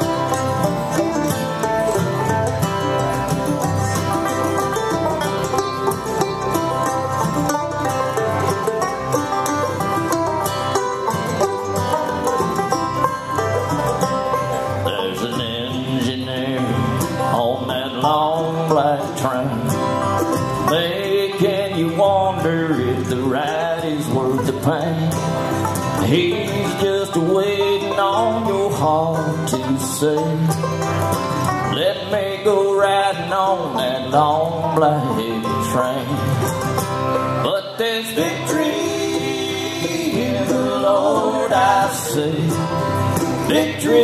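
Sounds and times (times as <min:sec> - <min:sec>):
bluegrass band playing: 0:00.0 - 0:44.0.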